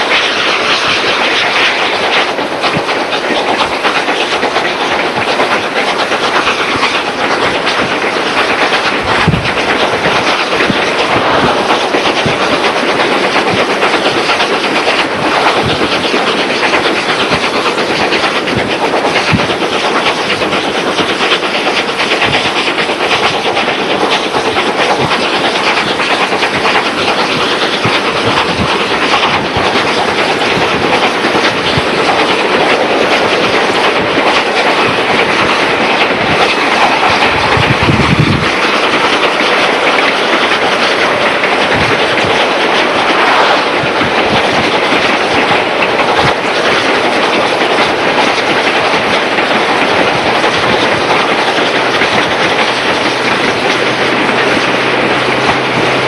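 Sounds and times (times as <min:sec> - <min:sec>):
steam train running at speed: 0:00.0 - 0:56.0.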